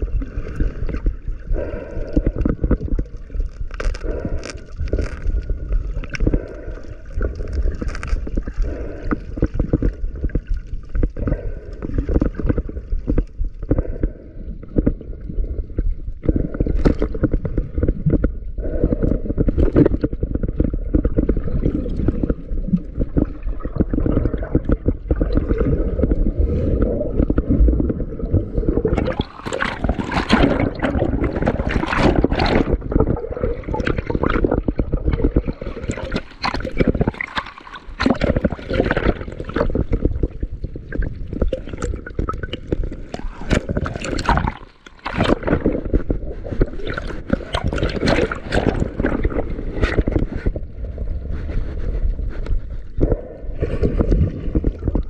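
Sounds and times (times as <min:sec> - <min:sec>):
underwater gurgling and bubbling: 0:00.0 - 0:55.0.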